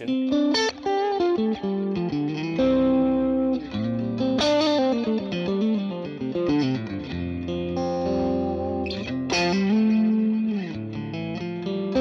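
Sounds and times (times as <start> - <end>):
electric guitar lead with delay: 0.0 - 12.0.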